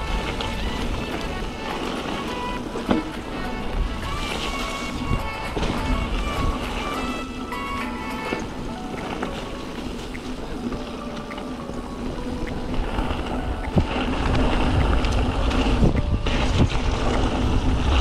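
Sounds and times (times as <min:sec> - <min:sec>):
wind rushing over microphone: 0:00.0 - 0:10.8, 0:11.8 - 0:18.0
bike tyres rolling on dirt: 0:00.0 - 0:18.0.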